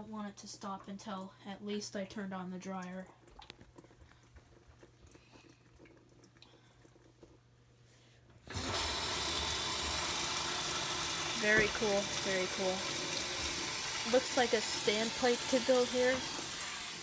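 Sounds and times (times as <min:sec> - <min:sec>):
water gushing into a sink: 0:02.0 - 0:07.6, 0:08.4 - 0:17.0.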